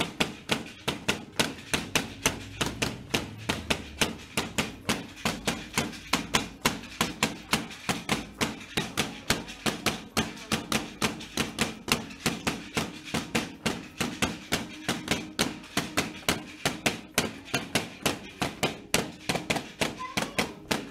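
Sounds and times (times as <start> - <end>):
sharp percussive clacks: 0.0 - 20.9.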